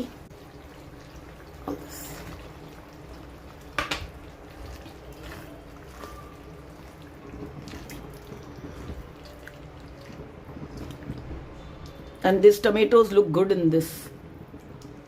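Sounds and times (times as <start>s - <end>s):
gravy bubbling in a pan: 0.0s - 12.1s.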